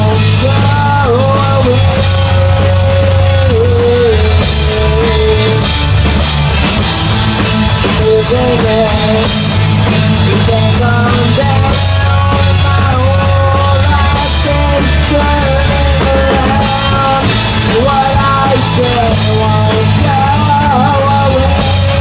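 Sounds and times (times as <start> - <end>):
loud rock song: 0.0 - 22.0.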